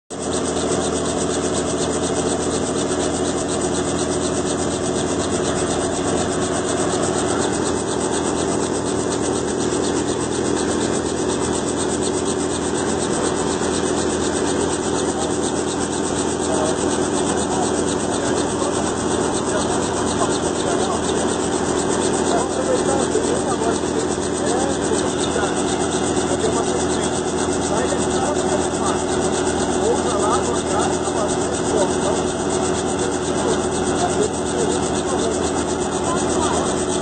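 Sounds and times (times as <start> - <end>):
helicopter rotor drone: 0.1 - 37.0.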